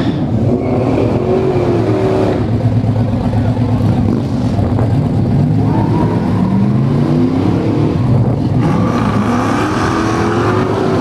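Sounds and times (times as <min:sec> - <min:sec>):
car engine revving hard: 0:00.0 - 0:02.6, 0:03.8 - 0:11.0.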